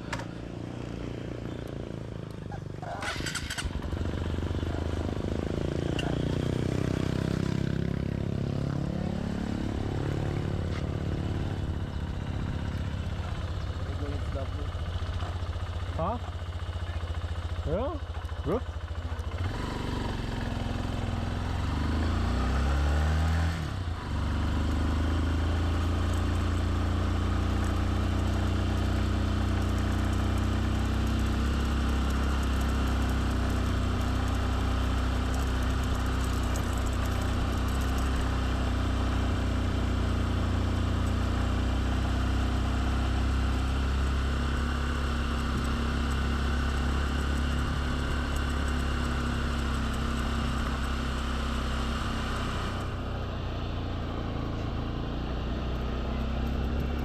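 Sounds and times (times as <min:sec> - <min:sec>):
motorbike engine pulling away: 0:02.7 - 0:17.1, 0:17.8 - 0:57.0.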